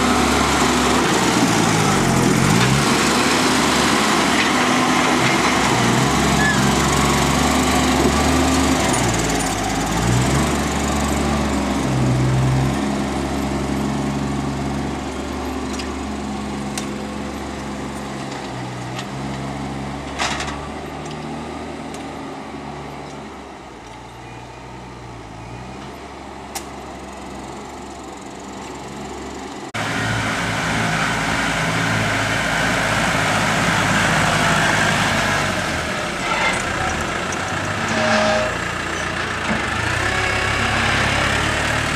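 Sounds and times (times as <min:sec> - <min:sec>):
tractor engine working: 0:00.0 - 0:23.9, 0:25.8 - 0:41.9.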